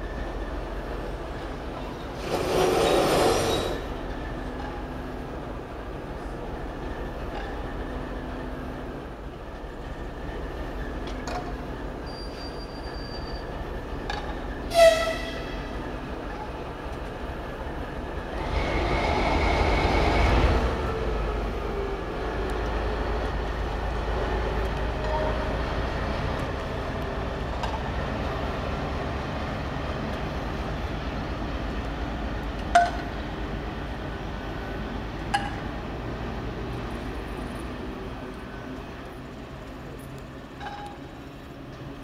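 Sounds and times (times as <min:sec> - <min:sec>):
diesel engine rumbling: 0:00.0 - 0:42.0.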